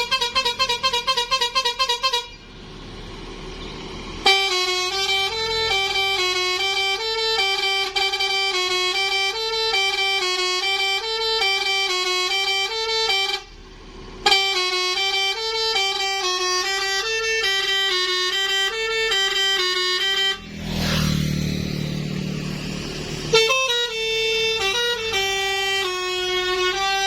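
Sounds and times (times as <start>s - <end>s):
bus musical air horns: 0.0s - 3.0s, 4.1s - 21.1s, 21.7s - 27.0s.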